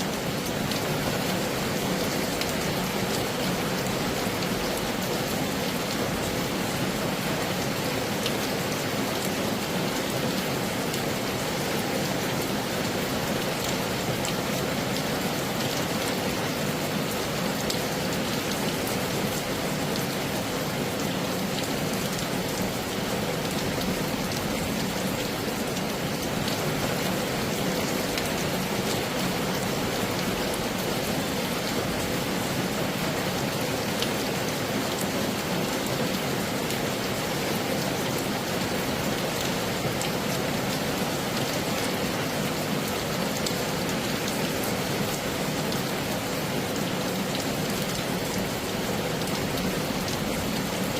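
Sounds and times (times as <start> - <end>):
heavy rain hiss: 0.0 - 50.9.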